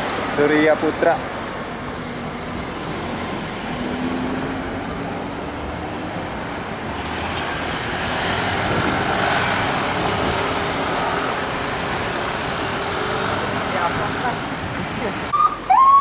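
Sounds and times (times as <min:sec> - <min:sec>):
bus passing: 0:00.0 - 0:16.0
steady traffic noise: 0:00.0 - 0:16.0.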